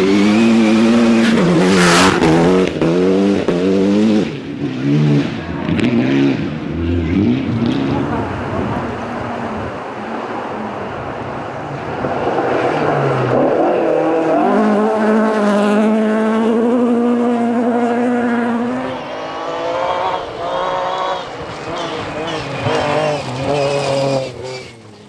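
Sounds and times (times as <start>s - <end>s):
rally car engine at high revs: 0.0s - 9.2s, 12.1s - 25.0s.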